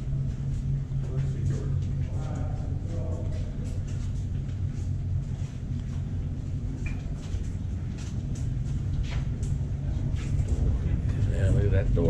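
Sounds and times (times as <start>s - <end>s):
faint footsteps: 0.0s - 12.0s
machinery rumbling: 0.0s - 12.0s.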